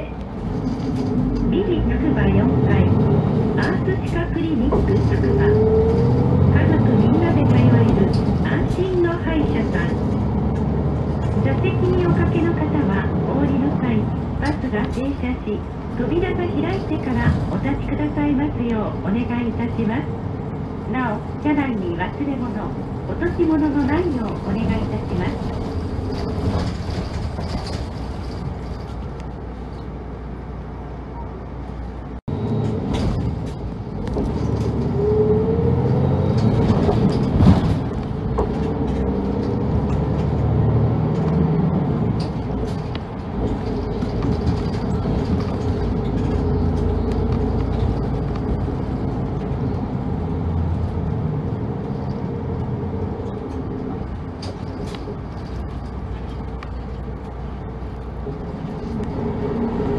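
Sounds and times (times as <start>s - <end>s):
bus engine hum: 0.0s - 59.9s
road noise: 0.0s - 59.9s.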